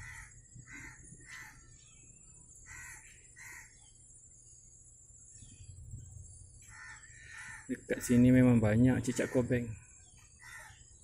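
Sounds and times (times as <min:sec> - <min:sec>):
faint bird calls: 0:00.0 - 0:04.6, 0:05.2 - 0:11.0.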